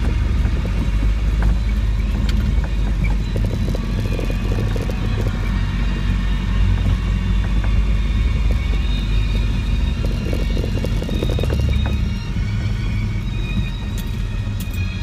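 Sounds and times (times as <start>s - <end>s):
diesel engine droning in cab: 0.0s - 15.0s.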